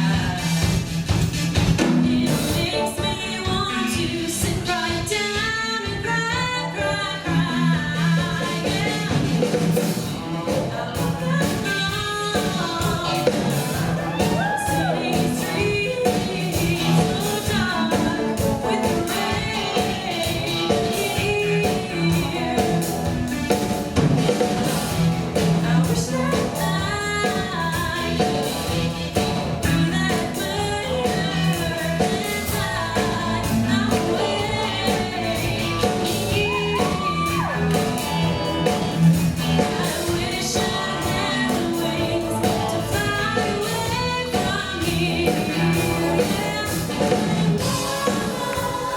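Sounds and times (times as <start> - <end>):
live band with singer: 0.0 - 48.9.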